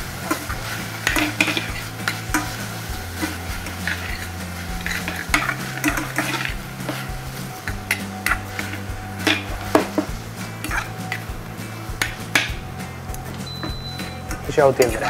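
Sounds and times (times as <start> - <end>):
metal spoon scraping pan: 0.0 - 14.5
steady low hum: 0.0 - 14.6
light sizzle: 0.0 - 15.0.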